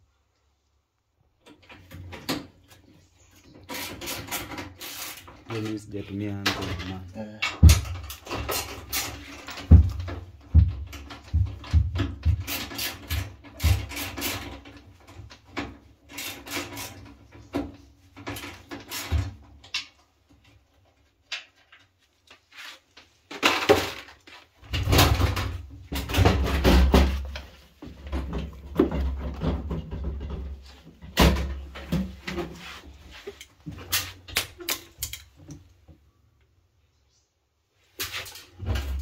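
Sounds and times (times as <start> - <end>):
objects knocking and scraping: 1.5 - 35.9, 37.9 - 39.0.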